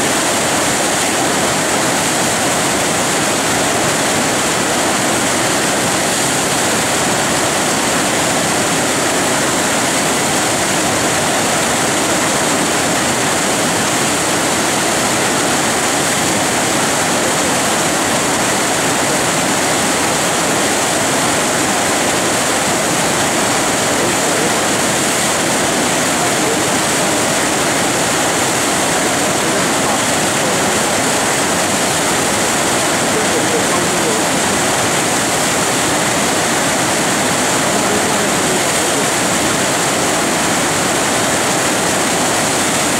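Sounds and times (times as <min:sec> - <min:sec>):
rapids rushing: 0:00.0 - 0:42.9.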